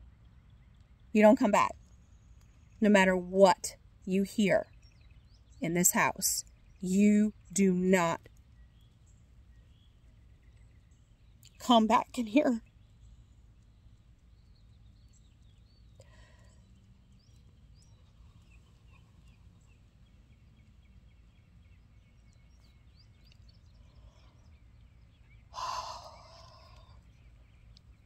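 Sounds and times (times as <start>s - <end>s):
low steady rumble: 0.0s - 28.0s
small birds chirping: 0.0s - 28.0s.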